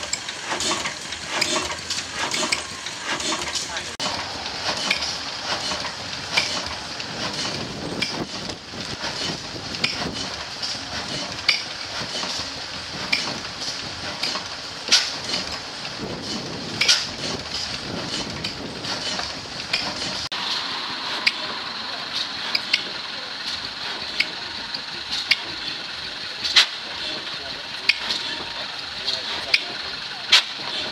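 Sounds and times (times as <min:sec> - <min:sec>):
sharp metallic clacks: 0:00.0 - 0:20.4, 0:21.1 - 0:25.8, 0:26.4 - 0:30.9
oil engine running: 0:00.0 - 0:30.9.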